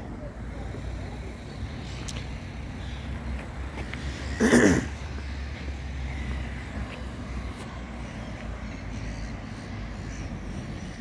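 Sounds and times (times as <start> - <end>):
town traffic rumble: 0.0 - 11.0.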